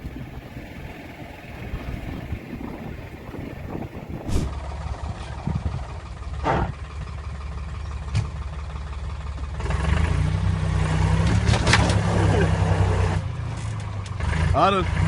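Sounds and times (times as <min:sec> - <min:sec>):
engine running at low pitch: 0:00.0 - 0:15.0
loud steady engine hum: 0:00.0 - 0:15.0.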